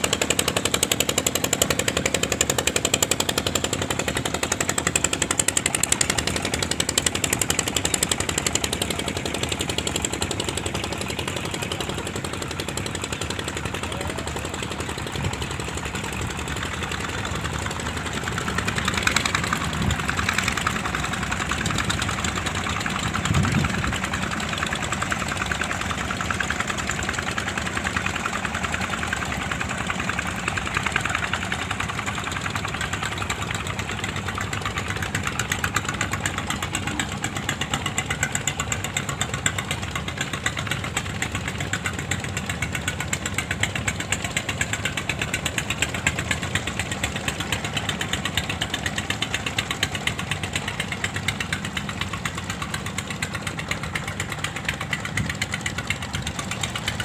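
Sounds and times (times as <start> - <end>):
boat engines puttering: 0.0 - 57.0.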